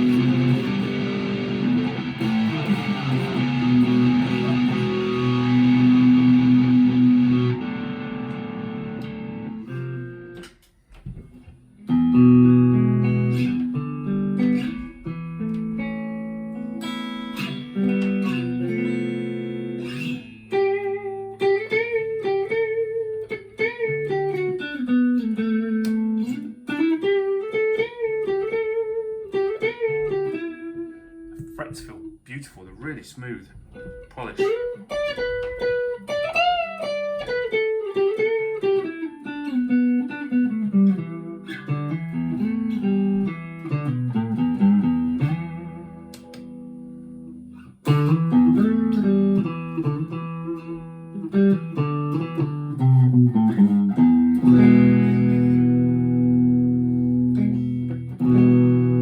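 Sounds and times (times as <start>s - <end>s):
electric guitar single-note melody: 0.0s - 10.8s, 11.4s - 32.2s, 33.6s - 59.0s
electric guitar strummed chords: 0.0s - 32.2s, 33.0s - 59.0s.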